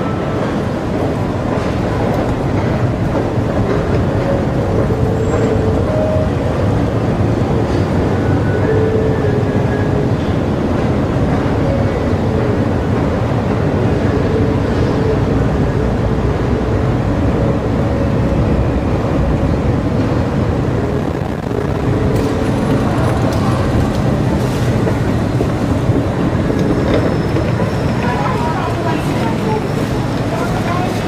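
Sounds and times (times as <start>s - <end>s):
escalator rumbling: 0.0s - 31.0s.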